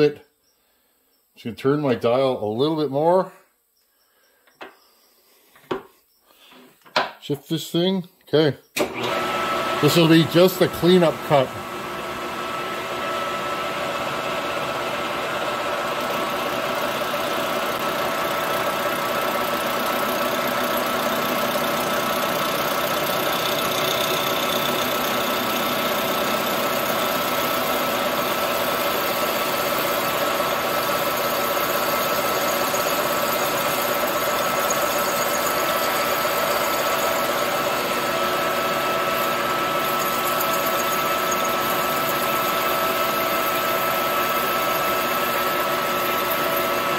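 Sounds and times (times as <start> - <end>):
metal lathe running: 8.8 - 46.9.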